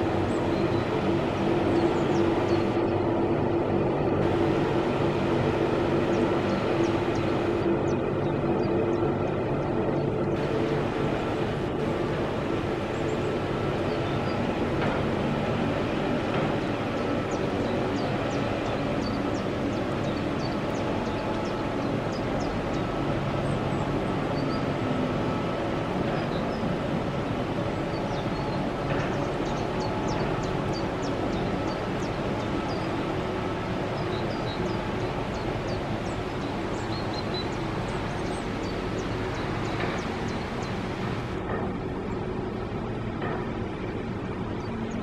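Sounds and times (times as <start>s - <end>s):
distant train hum: 0.0s - 45.0s
steady rushing outdoor noise: 0.0s - 45.0s.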